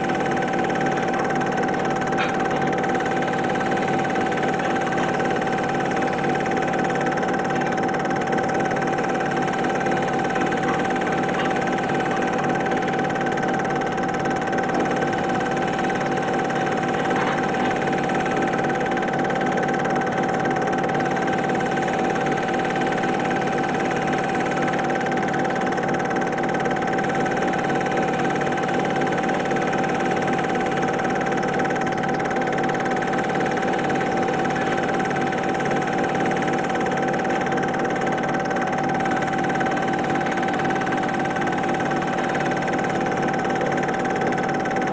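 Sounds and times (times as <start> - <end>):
film projector whirring: 0.0 - 44.9.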